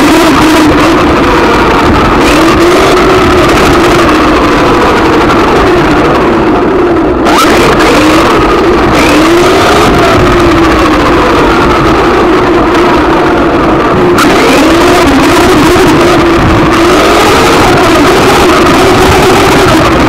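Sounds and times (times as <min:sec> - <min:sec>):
rc car motor whining: 0:00.0 - 0:20.0.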